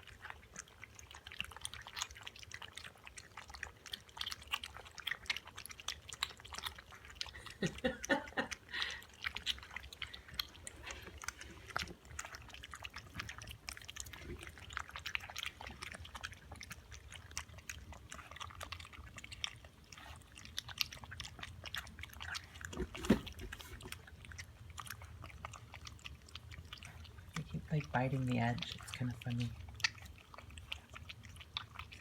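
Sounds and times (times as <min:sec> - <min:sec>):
puppies lapping milk: 0:00.0 - 0:32.0.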